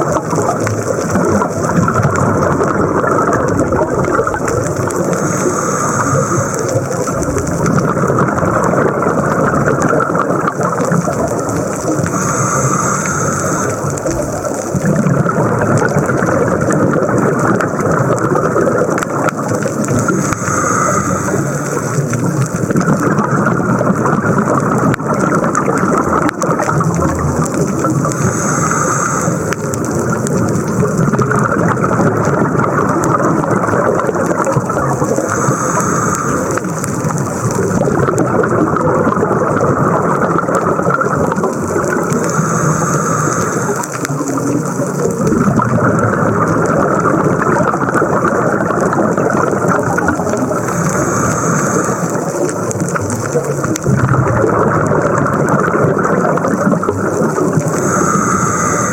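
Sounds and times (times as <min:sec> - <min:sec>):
exhaled regulator bubbles: 0:00.0 - 0:58.9
underwater rushing noise: 0:00.0 - 0:58.9.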